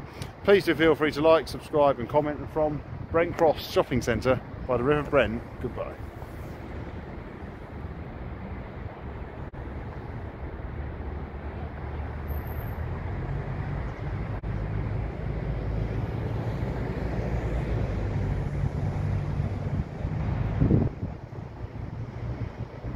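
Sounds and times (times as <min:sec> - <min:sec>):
road traffic rumble: 0:00.0 - 0:22.9.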